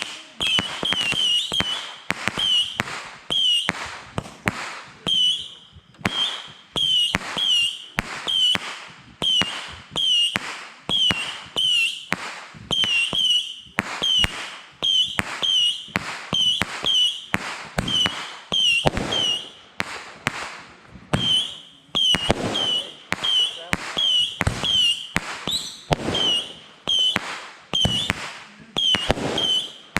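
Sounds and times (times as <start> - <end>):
fireworks cracking with whistles: 0.0 - 29.9.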